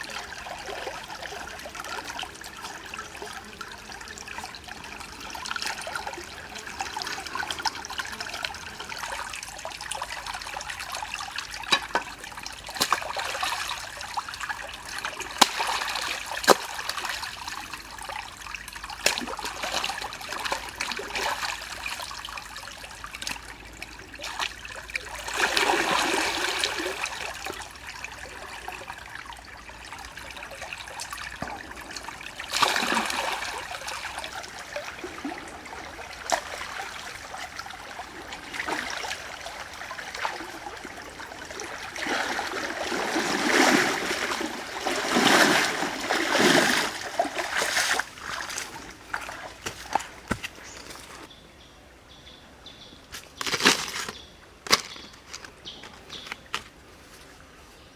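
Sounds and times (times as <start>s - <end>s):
water trickling and splashing: 0.0s - 51.3s.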